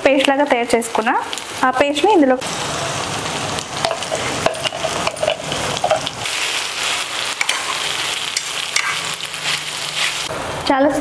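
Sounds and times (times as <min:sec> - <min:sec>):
gravy sizzling in a pan: 0:00.0 - 0:10.7.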